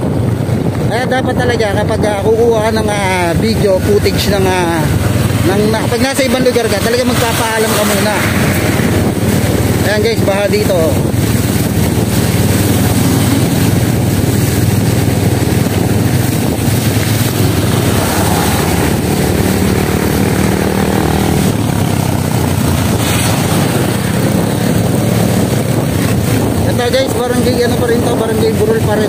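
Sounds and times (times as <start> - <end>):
motorcycle engine running: 0.0 - 29.0
wind noise on microphone: 0.0 - 29.0.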